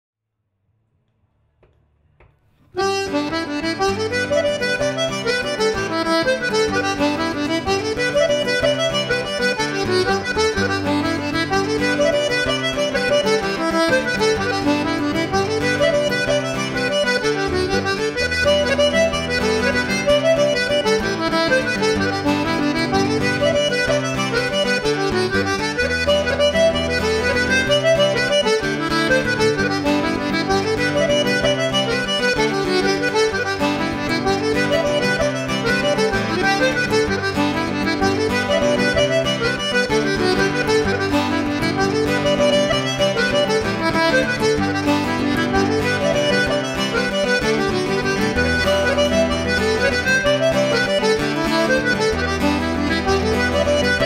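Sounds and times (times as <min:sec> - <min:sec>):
acoustic guitar chords: 0:02.7 - 0:54.0
button accordion melody: 0:02.8 - 0:54.0.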